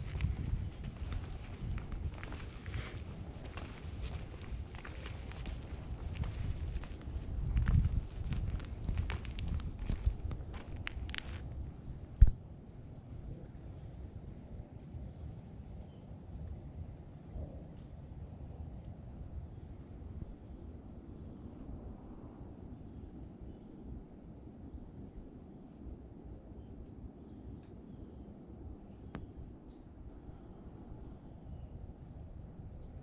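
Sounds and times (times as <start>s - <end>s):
low outdoor rumble: 0.0s - 25.3s, 26.9s - 33.0s.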